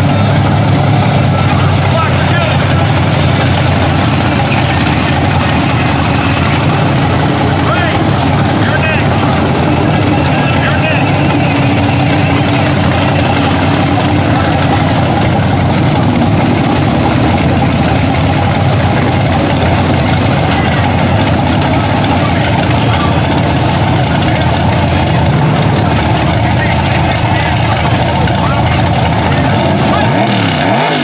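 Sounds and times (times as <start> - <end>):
truck engine idling loudly: 0.0 - 31.0.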